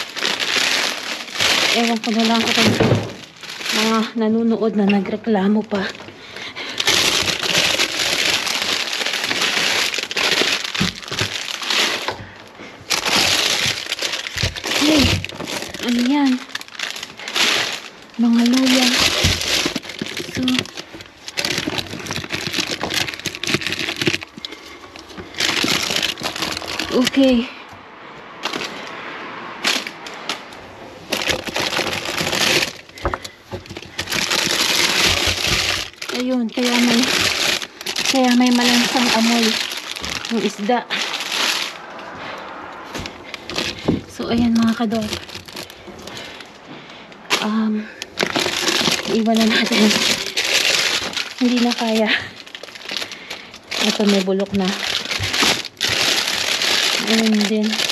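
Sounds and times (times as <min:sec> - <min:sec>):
potato bags rustling and crinkling: 0:00.0 - 0:57.9.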